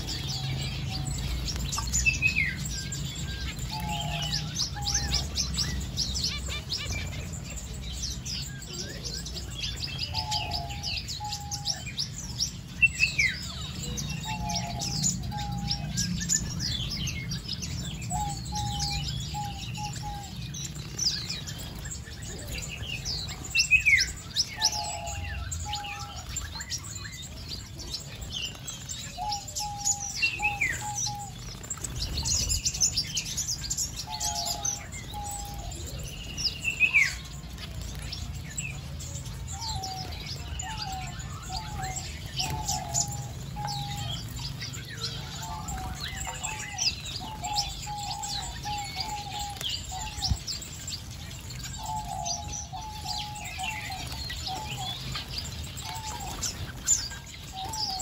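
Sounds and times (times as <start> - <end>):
finches chirping: 0.0 - 58.0.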